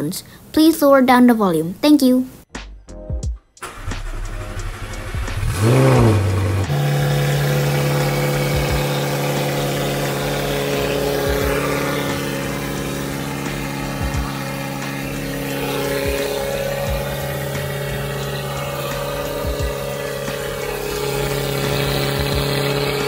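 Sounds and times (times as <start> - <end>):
car engine revving and idling: 3.6 - 23.0
car starter cranking: 3.6 - 23.0.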